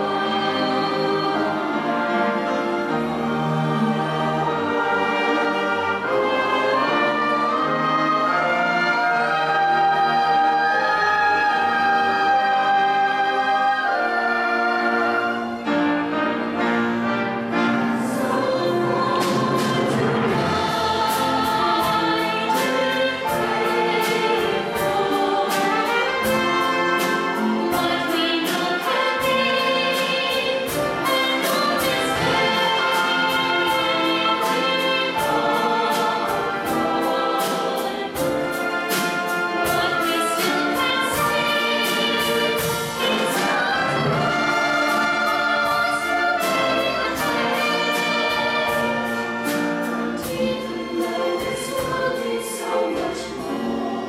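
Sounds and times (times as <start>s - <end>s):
mixed choir singing: 0.0s - 54.0s
orchestra playing: 0.0s - 54.0s.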